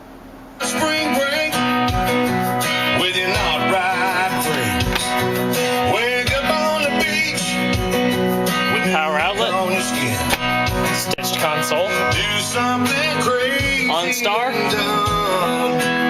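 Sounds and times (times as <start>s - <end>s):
country song with singing and guitar: 0.6s - 16.0s.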